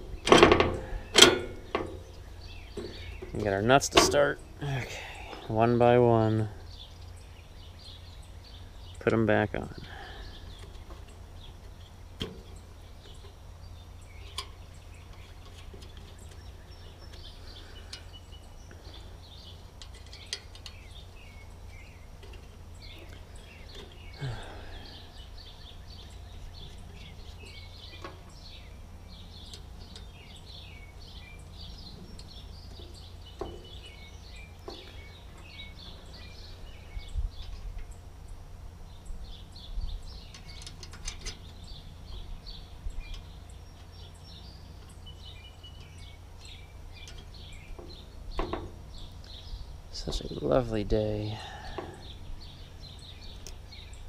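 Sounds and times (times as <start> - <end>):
birds chirping and singing: 0.0 - 54.0
steady low rumble: 0.0 - 54.0.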